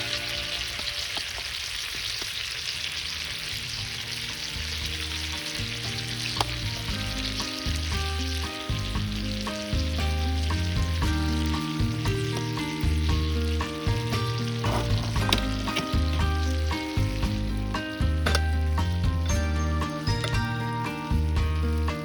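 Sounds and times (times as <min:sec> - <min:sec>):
food sizzling: 0:00.0 - 0:22.0
background music with bass: 0:04.1 - 0:22.0.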